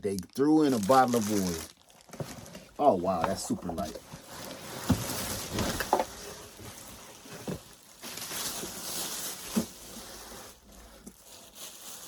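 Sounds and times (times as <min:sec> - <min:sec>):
packaging rustling: 0:00.1 - 0:12.0.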